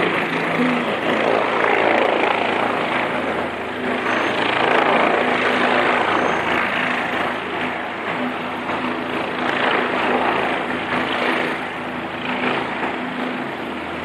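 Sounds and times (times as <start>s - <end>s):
helicopter rotor and engine: 0.0s - 14.0s.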